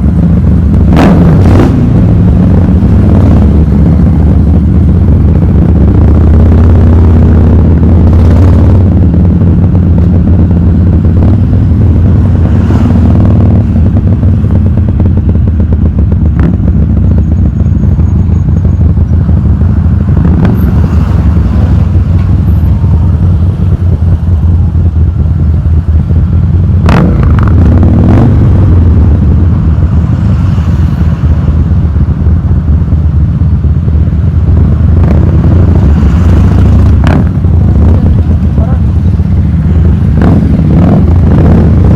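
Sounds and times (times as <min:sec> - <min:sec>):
motorcycle engine rumbling: 0:00.0 - 0:41.9
sharp exhaust cracks: 0:00.0 - 0:41.9.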